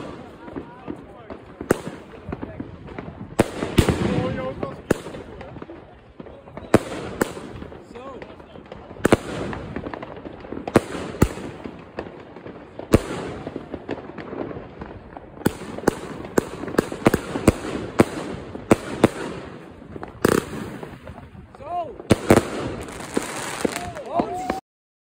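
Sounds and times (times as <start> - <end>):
fireworks bangs: 0.0 - 24.6.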